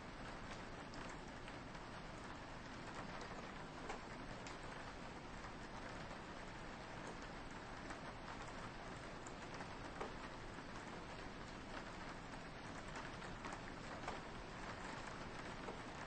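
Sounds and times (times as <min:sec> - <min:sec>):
raindrops ticking on window: 0:00.0 - 0:16.0
soft steady rain: 0:00.0 - 0:16.0.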